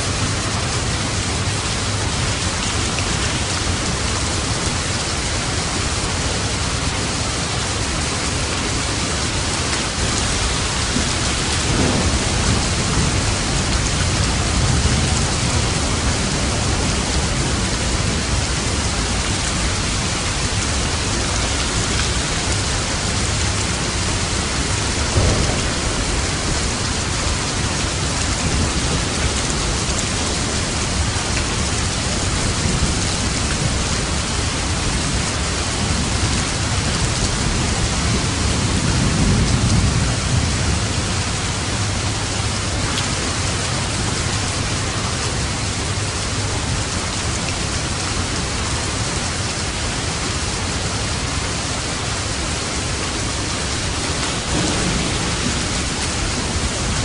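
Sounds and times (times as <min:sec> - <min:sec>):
thunder rumbling: 0:00.0 - 0:48.0, 0:52.5 - 0:57.0
heavy rain: 0:00.0 - 0:57.0.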